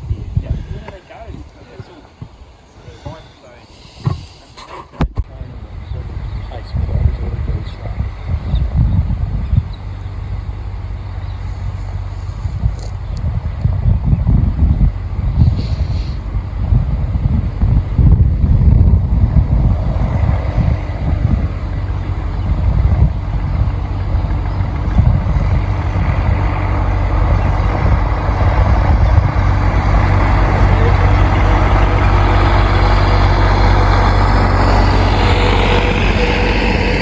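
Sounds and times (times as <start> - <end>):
tractor engine running: 0.0 - 37.0
wind buffeting microphone: 0.0 - 37.0.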